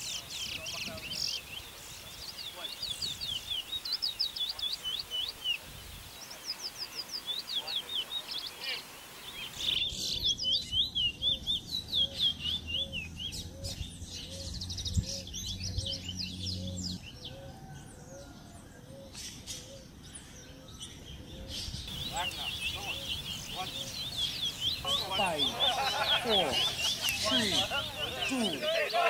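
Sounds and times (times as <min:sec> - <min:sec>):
finches singing whistled notes: 0:00.0 - 0:17.7, 0:21.9 - 0:29.0.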